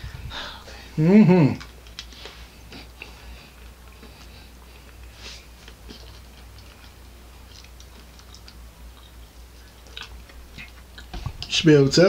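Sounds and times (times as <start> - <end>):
person chewing: 0.0 - 11.5
steady low hum: 0.0 - 12.0.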